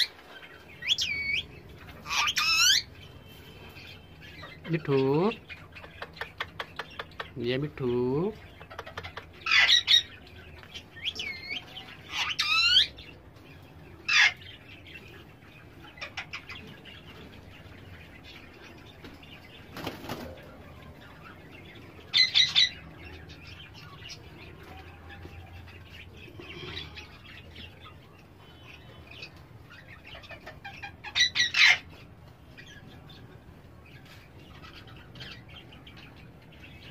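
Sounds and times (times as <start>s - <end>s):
parakeets screeching: 0.0s - 18.9s, 21.0s - 33.2s
quiet parakeet chatter: 0.0s - 36.9s.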